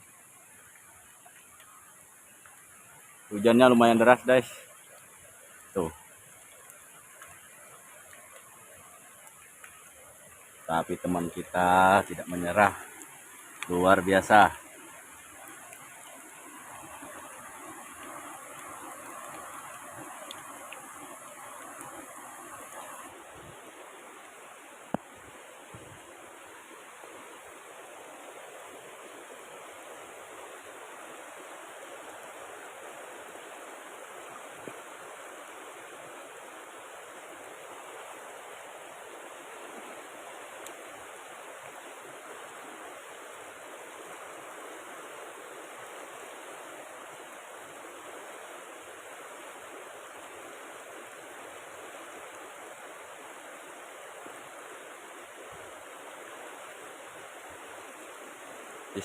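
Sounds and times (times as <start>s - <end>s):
rain falling: 0.0s - 59.0s
river rapids rushing: 5.8s - 59.0s.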